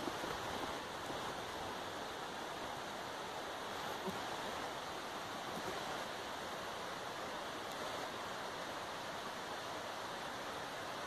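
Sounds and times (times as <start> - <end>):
wind rushing through trees: 0.0 - 11.0.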